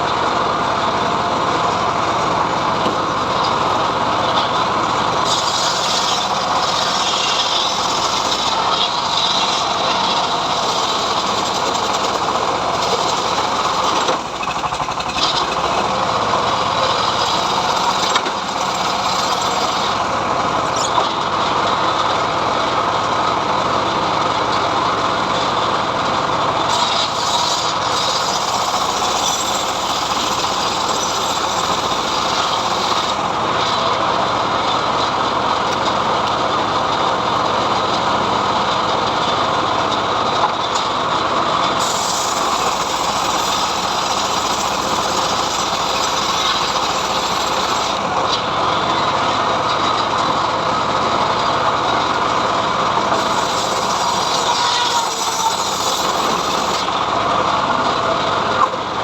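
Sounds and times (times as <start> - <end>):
engine-driven sawmill sawing wood: 0.0 - 59.0.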